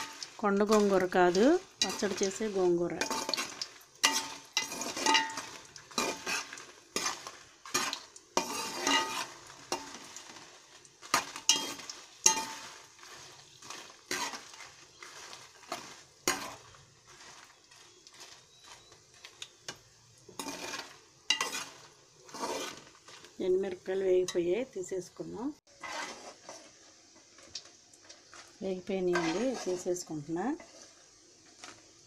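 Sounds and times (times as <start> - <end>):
metal spoon scraping a pot: 0.0 - 19.7, 20.3 - 23.4, 25.7 - 26.8, 29.1 - 31.0
chillies sizzling in oil: 0.0 - 32.0.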